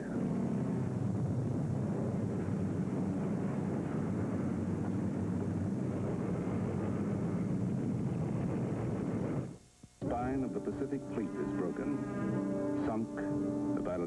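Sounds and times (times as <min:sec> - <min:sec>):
aircraft engines droning: 0:00.0 - 0:09.4, 0:10.0 - 0:14.0.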